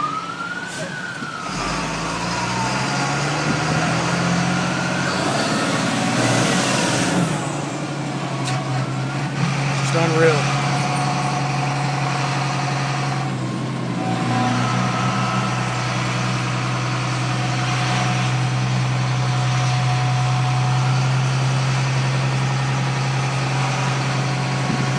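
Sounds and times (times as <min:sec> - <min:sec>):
vehicle engine droning: 0:00.7 - 0:24.9.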